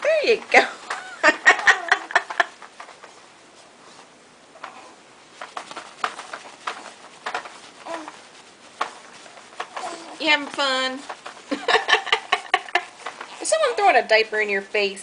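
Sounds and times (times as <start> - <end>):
baby limbs tapping surface: 0.3 - 3.3, 4.6 - 14.5.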